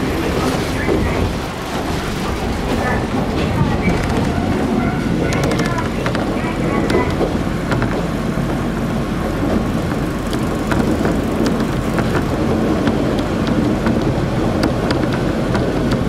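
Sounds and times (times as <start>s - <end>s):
railcar engine and wheels rumble: 0.0s - 16.0s.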